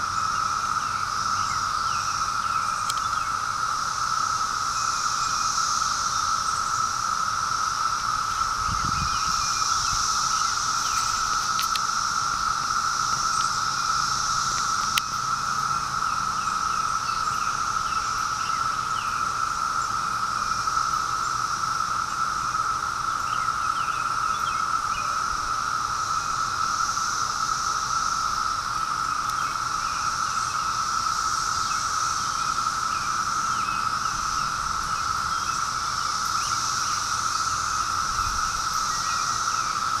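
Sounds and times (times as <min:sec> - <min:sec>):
cicadas droning: 0:00.0 - 0:40.0.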